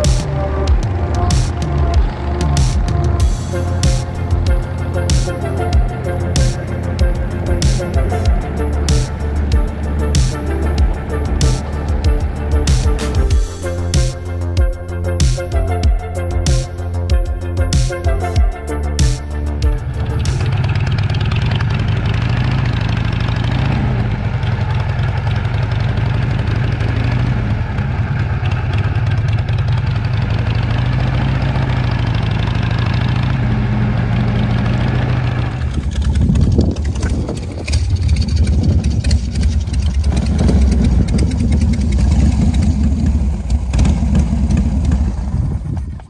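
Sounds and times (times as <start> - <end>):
motorcycles idling: 0.0 - 18.5, 19.3 - 46.0
motorcycle engine running: 0.0 - 46.0.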